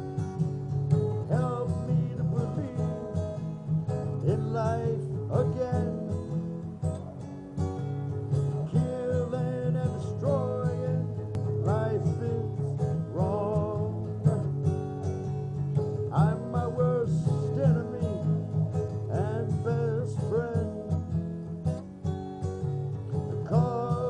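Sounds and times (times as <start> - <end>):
gliding lead guitar notes: 0.0 - 24.0
strummed acoustic guitar: 0.0 - 24.0.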